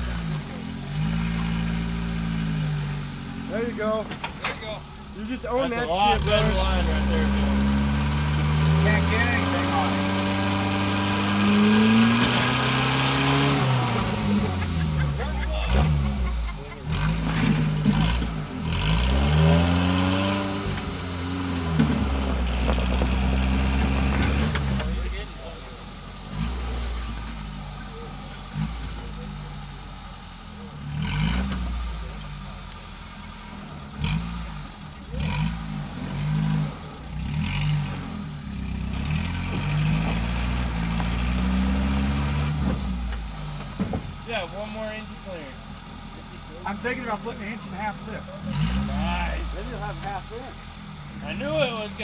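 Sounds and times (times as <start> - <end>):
car engine revving under load: 0.0 - 52.0.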